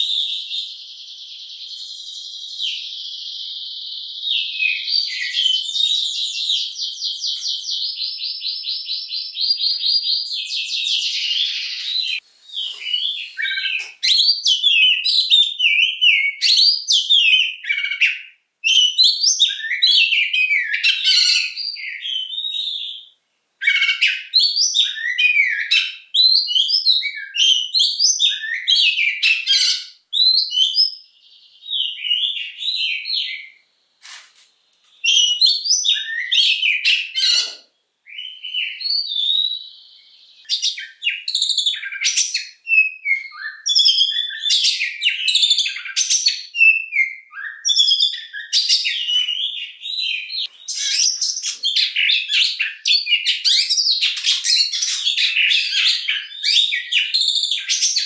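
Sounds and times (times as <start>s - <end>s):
bird singing chirps and whistles: 0.0s - 33.8s, 34.9s - 58.0s.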